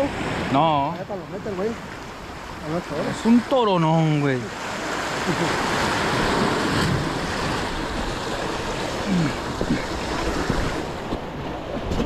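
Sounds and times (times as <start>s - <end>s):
sea surf breaking over rocks: 0.0s - 12.0s.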